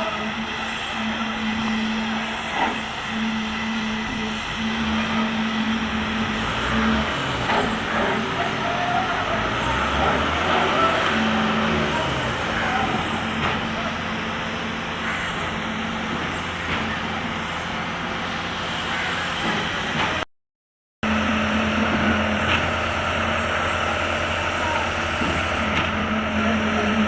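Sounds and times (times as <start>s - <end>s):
concrete mixer and pump running: 0.0s - 20.2s, 21.0s - 27.0s.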